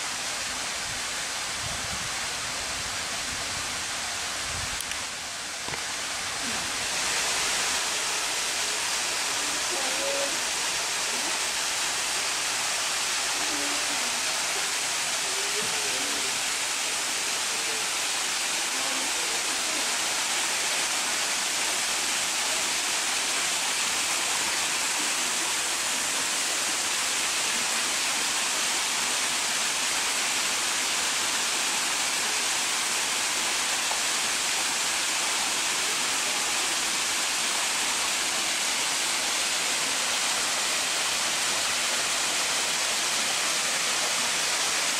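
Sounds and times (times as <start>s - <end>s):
waterfall splashing into pond: 0.0s - 44.9s.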